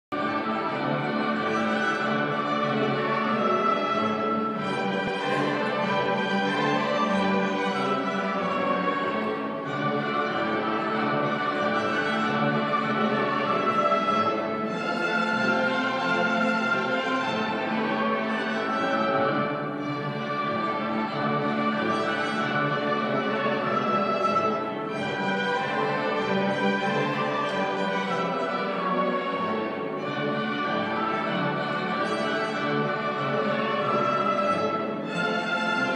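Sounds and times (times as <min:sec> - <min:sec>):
orchestra playing classical music: 0:00.1 - 0:35.9.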